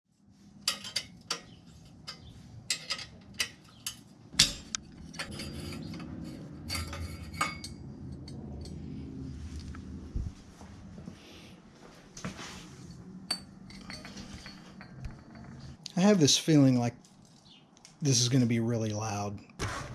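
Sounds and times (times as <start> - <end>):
low steady hum: 0.1 - 19.9.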